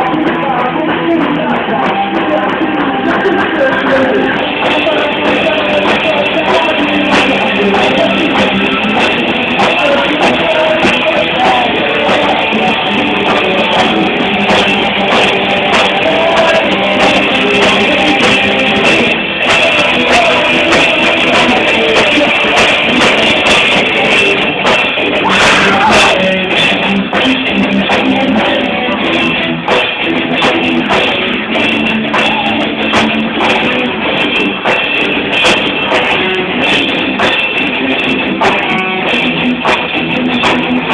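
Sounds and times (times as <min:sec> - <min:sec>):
live rock band: 0:00.0 - 0:40.9.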